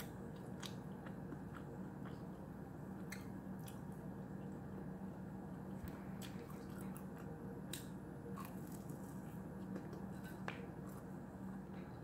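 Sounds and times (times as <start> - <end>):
chewing bread: 0.0 - 12.0
steady low hum: 0.0 - 12.0.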